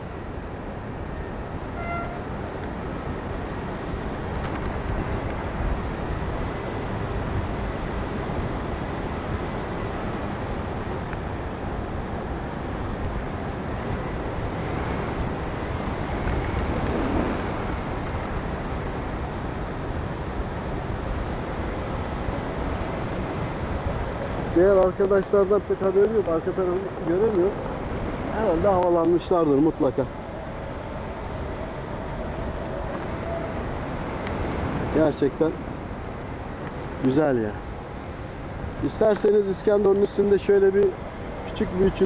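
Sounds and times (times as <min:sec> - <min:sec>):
wind rushing across microphone: 0:00.0 - 0:42.0.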